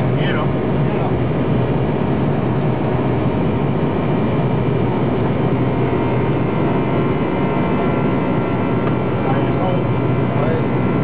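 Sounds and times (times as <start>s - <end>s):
jet engines and airflow rush: 0.0s - 11.0s.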